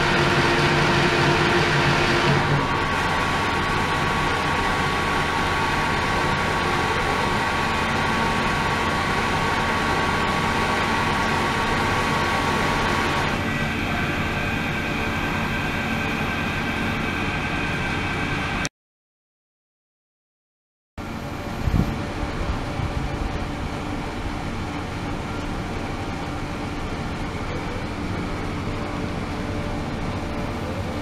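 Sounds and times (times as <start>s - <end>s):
circulation pump humming: 0.0s - 18.7s, 21.0s - 31.0s
thin steady whine: 0.0s - 18.7s, 21.0s - 31.0s.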